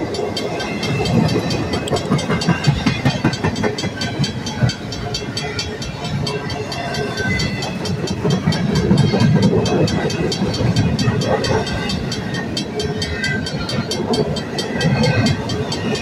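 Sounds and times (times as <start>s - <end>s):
rapid wheel clicking: 0.0s - 16.0s
train wheels rumbling on rails: 0.0s - 16.0s.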